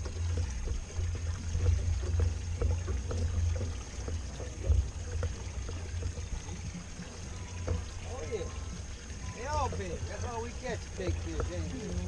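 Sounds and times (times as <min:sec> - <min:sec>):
small knocks: 0:00.0 - 0:11.6
water trickling and splashing: 0:00.0 - 0:12.0.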